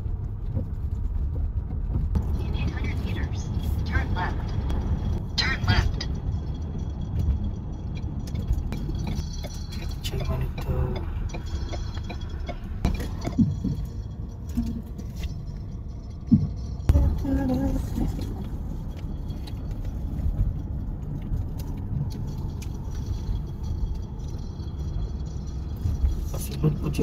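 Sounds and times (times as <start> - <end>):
car cabin road rumble: 0.0 - 27.0.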